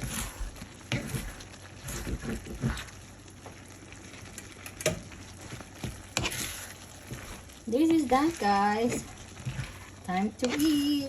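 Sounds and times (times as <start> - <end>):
spatula scraping and knocking pan: 0.0 - 3.6, 4.8 - 11.0
food sizzling in a frying pan: 0.0 - 11.0.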